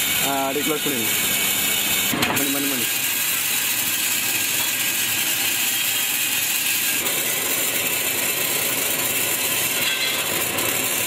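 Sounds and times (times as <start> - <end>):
roasting drum rattling grain: 0.0 - 11.0.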